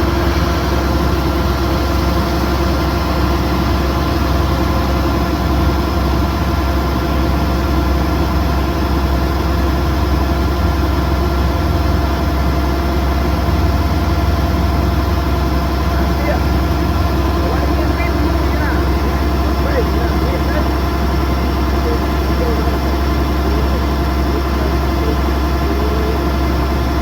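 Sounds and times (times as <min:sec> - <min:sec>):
combine harvester diesel engine: 0:00.0 - 0:27.0.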